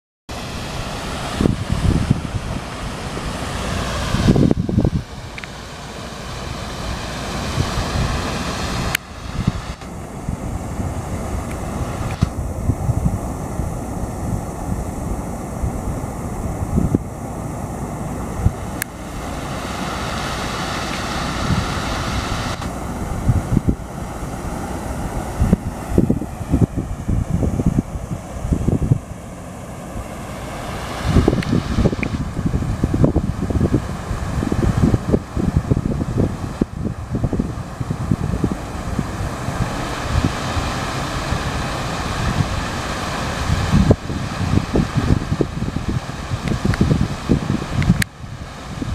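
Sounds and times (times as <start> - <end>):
fountain water splashing: 0.3 - 48.9
steady rushing hiss: 0.3 - 48.9
wind buffeting microphone: 0.3 - 48.9.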